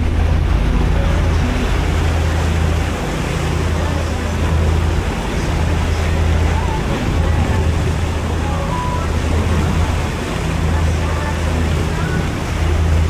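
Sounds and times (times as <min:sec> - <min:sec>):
boat engine droning: 0:00.0 - 0:13.0
water rushing: 0:00.0 - 0:13.0
wind noise: 0:00.0 - 0:13.0.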